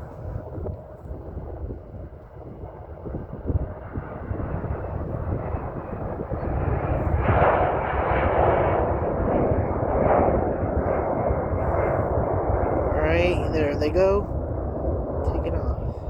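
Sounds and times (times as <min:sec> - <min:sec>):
jet engines running up: 0:00.0 - 0:16.0.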